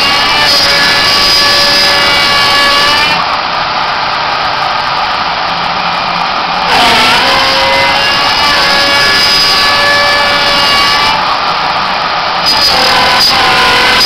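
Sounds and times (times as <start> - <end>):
milling machine cutter whine: 0.0 - 14.0.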